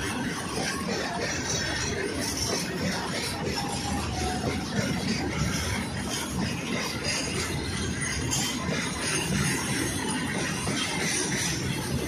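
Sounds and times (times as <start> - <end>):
train wheels rattling on rails: 0.0 - 12.0.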